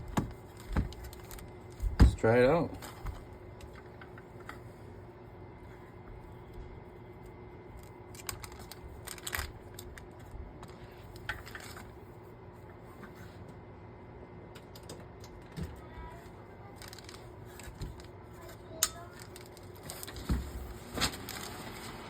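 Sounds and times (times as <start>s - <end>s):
small fan humming: 0.0s - 22.0s.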